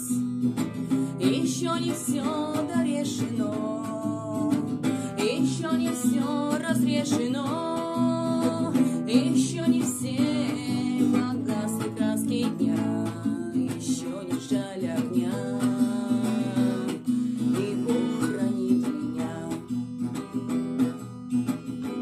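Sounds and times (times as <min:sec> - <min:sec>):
person singing: 0:00.0 - 0:20.1
acoustic guitar strumming: 0:00.0 - 0:22.0.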